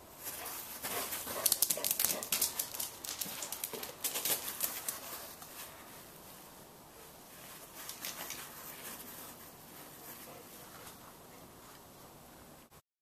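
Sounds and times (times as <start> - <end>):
dogs scuffling and pattering: 0.2 - 6.1, 7.3 - 11.8.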